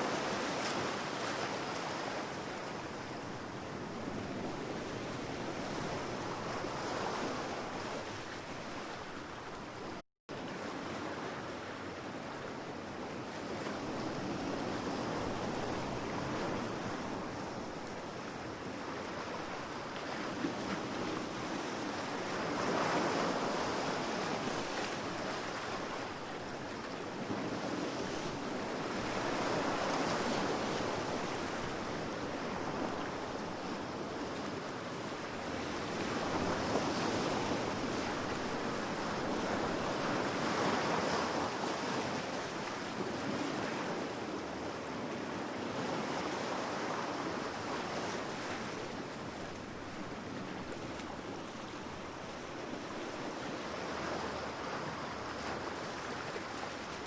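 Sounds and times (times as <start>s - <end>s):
ocean waves washing onto beach: 0.0s - 57.0s.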